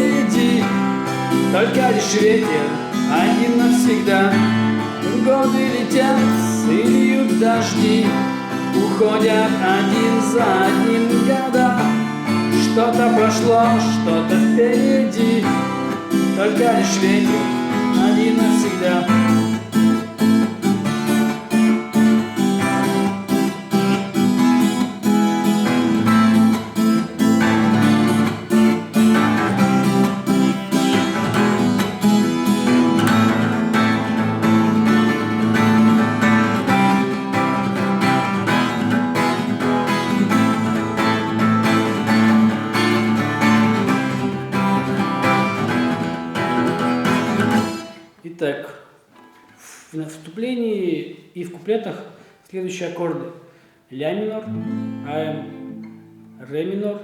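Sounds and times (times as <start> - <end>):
acoustic guitar strumming: 0.0 - 48.3, 49.0 - 49.8, 54.4 - 56.5.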